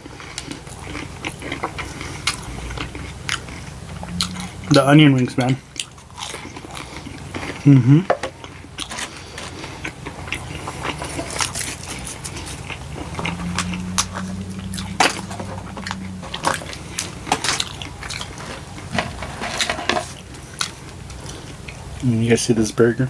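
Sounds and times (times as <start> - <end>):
crunchy chewing: 0.0 - 22.0
low steady hum: 0.0 - 23.0.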